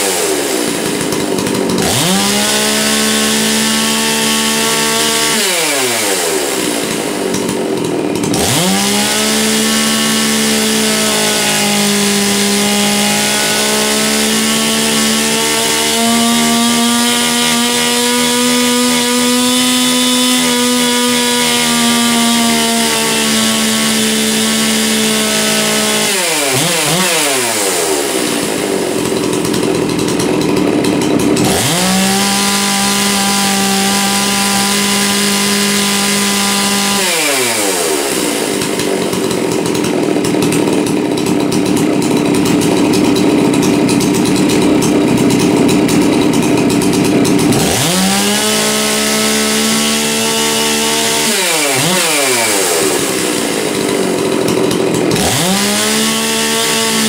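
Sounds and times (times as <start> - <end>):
chainsaw revving and idling: 0.0 - 57.0.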